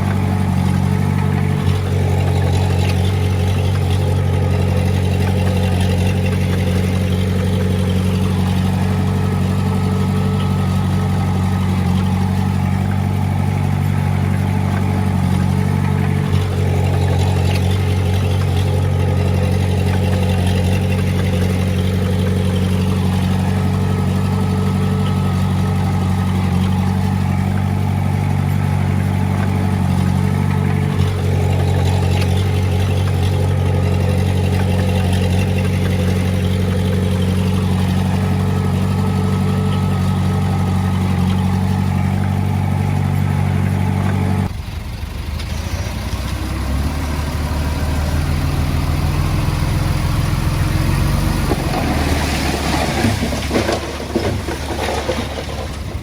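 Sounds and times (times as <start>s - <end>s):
clattering: 0.0s - 44.5s, 50.9s - 56.0s
diesel engine running: 0.0s - 56.0s.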